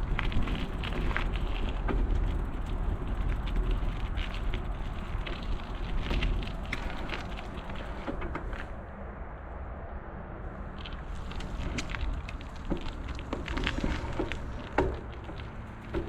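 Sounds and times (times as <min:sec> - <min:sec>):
bike clicks and rattles: 0:00.0 - 0:09.0, 0:10.6 - 0:16.0
wind buffeting microphone: 0:00.0 - 0:16.0.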